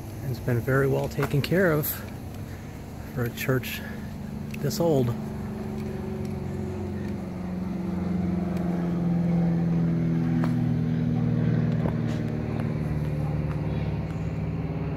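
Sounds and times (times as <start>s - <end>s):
vehicle engine running: 0.0s - 14.9s.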